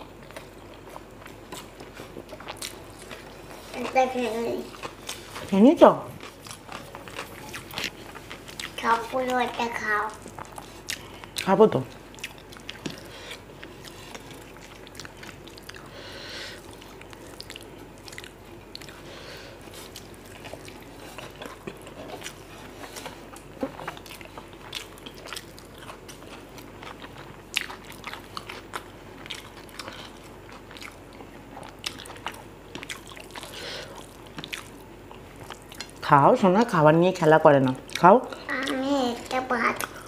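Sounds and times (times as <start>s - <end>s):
person chewing food: 0.0s - 36.0s, 37.8s - 38.8s.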